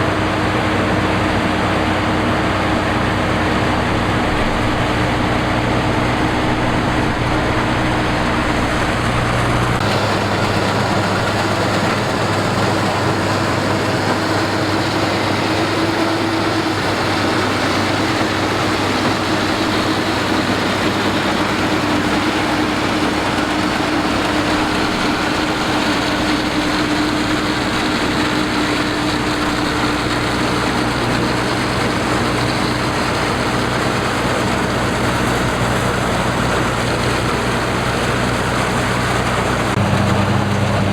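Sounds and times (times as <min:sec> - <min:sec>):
combine harvester engine and machinery: 0:00.0 - 0:40.9
deep rumble: 0:00.0 - 0:40.9.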